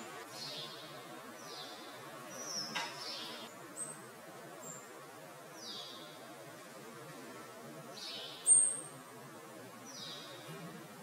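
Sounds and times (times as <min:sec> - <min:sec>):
songbirds calling: 0:00.0 - 0:06.4, 0:07.8 - 0:11.0.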